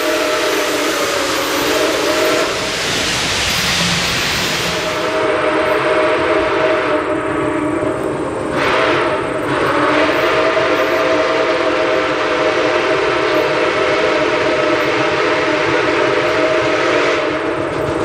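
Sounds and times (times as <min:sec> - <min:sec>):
steam whistle blast: 0:00.0 - 0:07.8, 0:08.5 - 0:17.6
steam locomotive working: 0:00.0 - 0:18.0.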